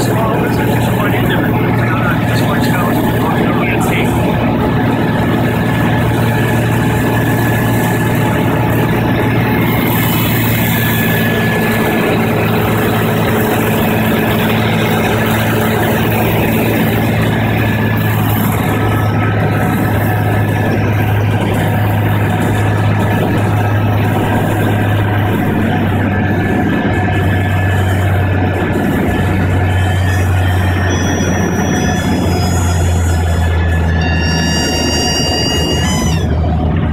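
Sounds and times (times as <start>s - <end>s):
plane engine and propeller droning: 0.0s - 36.9s.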